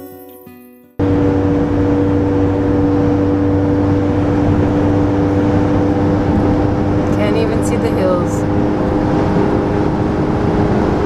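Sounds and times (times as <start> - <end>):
vehicle interior road noise: 1.0 - 11.0.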